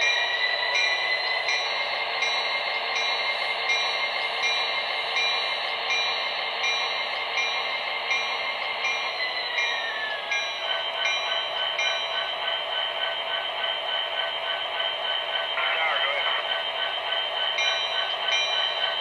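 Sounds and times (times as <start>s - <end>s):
model locomotive engine sound: 0.0s - 19.0s.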